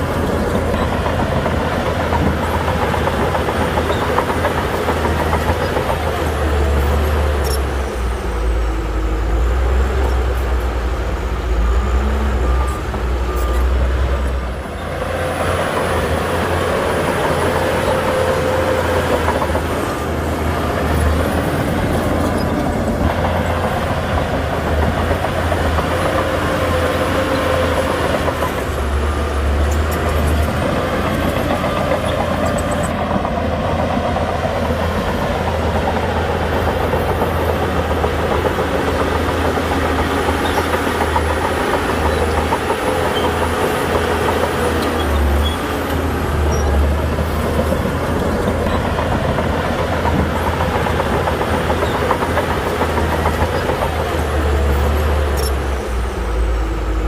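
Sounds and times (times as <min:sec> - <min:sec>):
diesel machinery rumbling: 0:00.0 - 0:57.0.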